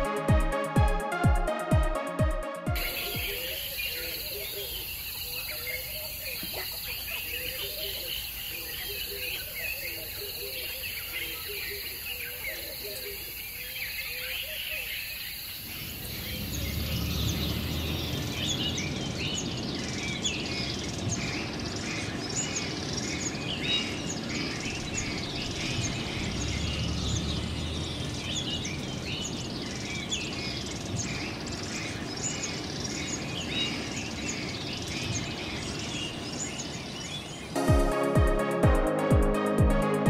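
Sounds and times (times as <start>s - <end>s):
small birds chirping: 2.8s - 37.6s.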